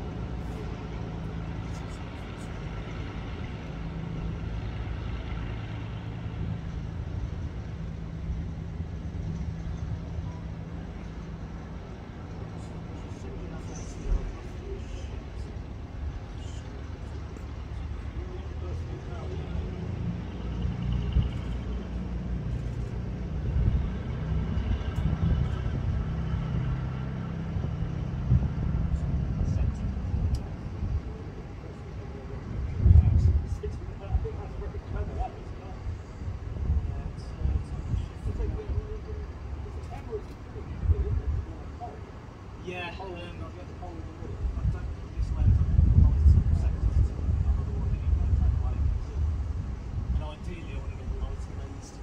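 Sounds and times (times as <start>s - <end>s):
low engine hum: 0.0s - 52.0s.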